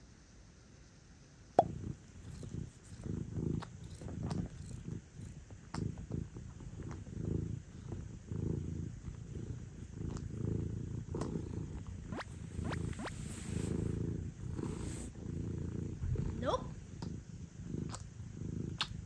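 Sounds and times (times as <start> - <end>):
cat purring: 1.6 - 19.0.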